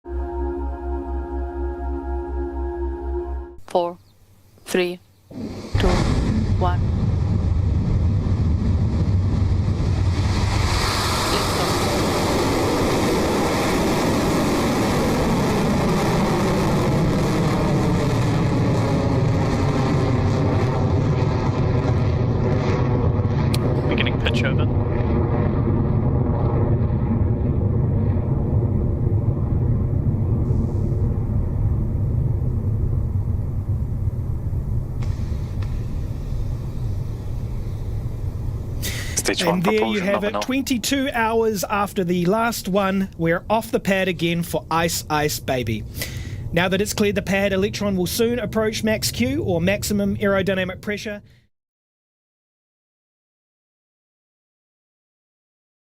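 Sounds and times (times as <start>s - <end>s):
rocket engines rumbling: 5.3s - 51.2s.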